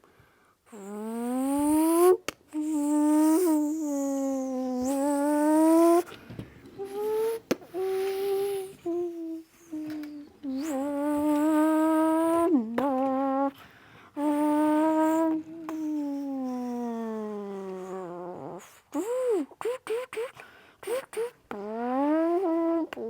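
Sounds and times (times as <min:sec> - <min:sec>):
boy imitating car engine: 0:00.7 - 0:06.1, 0:06.8 - 0:13.6, 0:14.2 - 0:23.0.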